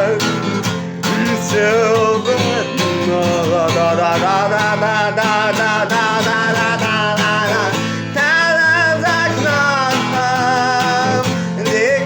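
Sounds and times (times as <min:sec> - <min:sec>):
guitar accompaniment: 0:00.0 - 0:12.0
person singing: 0:00.0 - 0:12.0.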